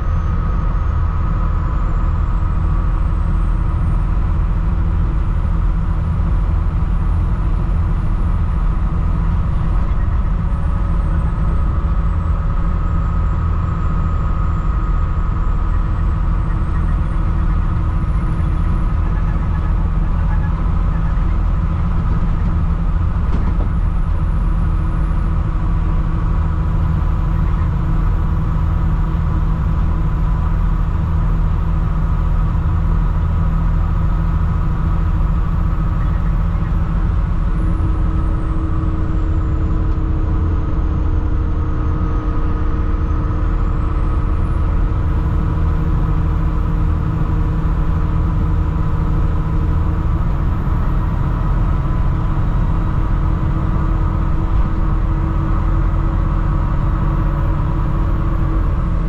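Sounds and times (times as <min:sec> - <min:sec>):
diesel bus engine running: 0:00.0 - 0:59.0.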